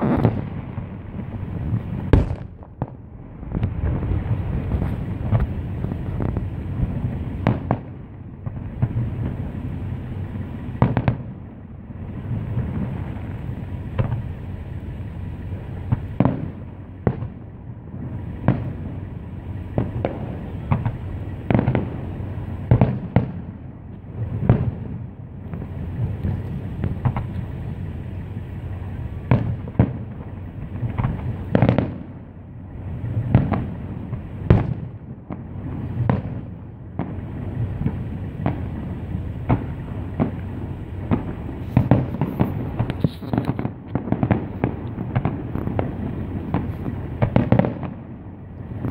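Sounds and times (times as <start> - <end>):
continuous low rumble: 0.0 - 48.9
firework shells bursting: 0.0 - 48.9.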